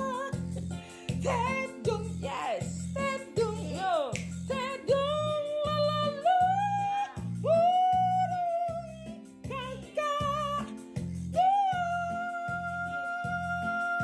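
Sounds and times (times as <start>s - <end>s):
repeating bass accompaniment: 0.0s - 12.8s.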